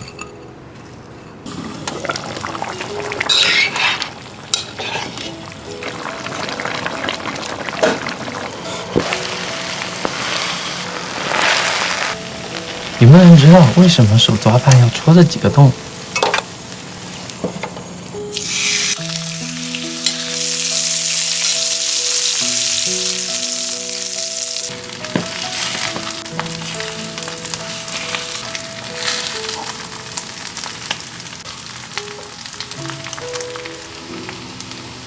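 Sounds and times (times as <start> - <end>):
soft background music: 0.0 - 35.0
food sizzling in hot oil: 1.5 - 35.0.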